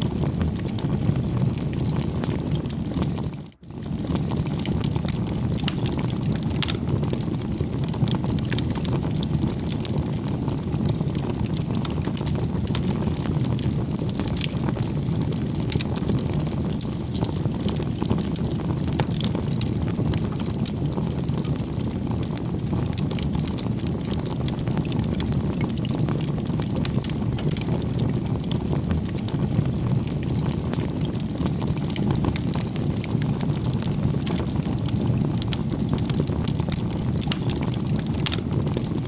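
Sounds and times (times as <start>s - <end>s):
campfire crackling and popping: 0.0s - 39.0s.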